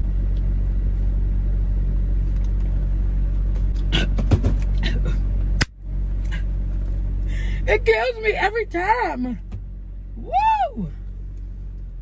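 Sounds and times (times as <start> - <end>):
air conditioning running: 0.0 - 12.0
car engine idling: 0.0 - 12.0.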